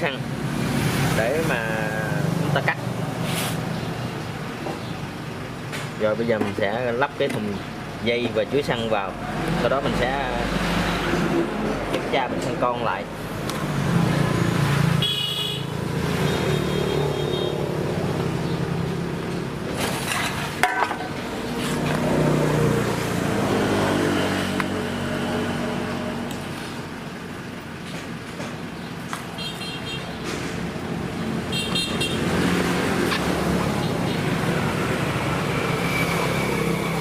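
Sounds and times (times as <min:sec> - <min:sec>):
road traffic passing: 0:00.0 - 0:37.0.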